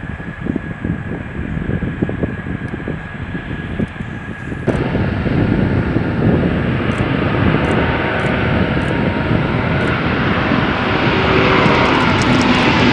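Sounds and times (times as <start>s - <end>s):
aircraft engines rumbling: 0.0s - 12.9s.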